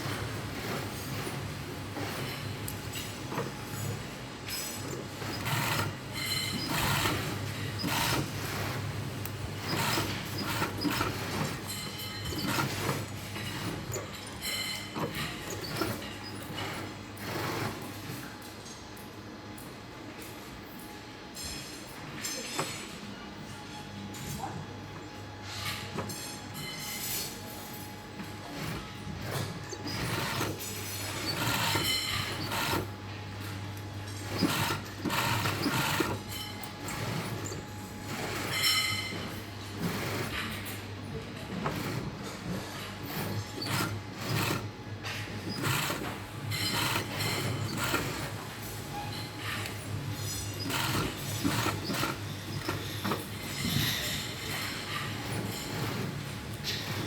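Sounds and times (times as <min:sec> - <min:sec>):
sewing machine motor hum: 0:00.0 - 0:17.9, 0:28.4 - 0:57.0
sewing machine clicks and rustles: 0:00.0 - 0:20.8, 0:25.2 - 0:57.0.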